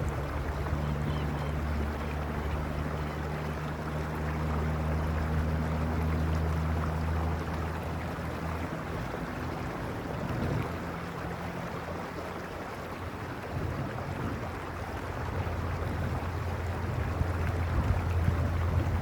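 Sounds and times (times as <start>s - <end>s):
creek rushing over stones: 0.0s - 19.0s.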